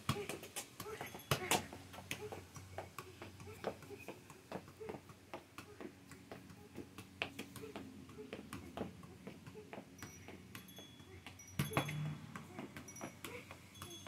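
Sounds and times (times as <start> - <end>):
soccer ball tapping off feet: 0.0 - 14.0.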